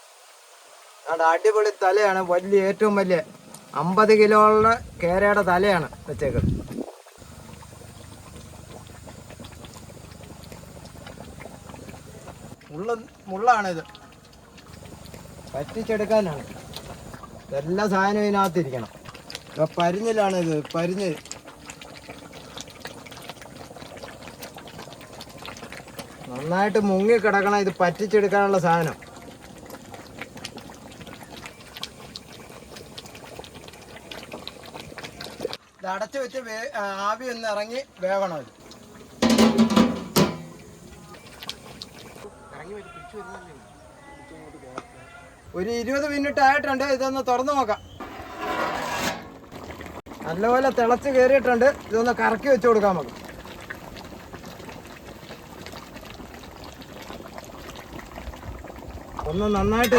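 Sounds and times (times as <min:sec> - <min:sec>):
curry boiling in a pot: 0:00.0 - 0:44.1, 0:44.8 - 0:59.9.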